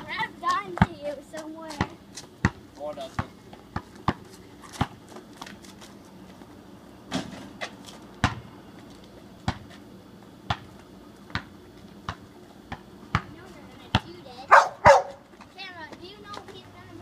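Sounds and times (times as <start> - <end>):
basketball bouncing on asphalt: 0.0 - 5.6, 7.1 - 9.8, 10.4 - 16.7.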